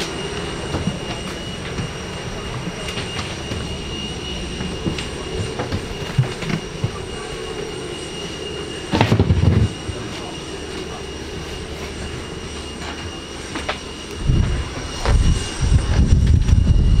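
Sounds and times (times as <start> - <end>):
machinery hum with high whine: 0.0 - 17.0.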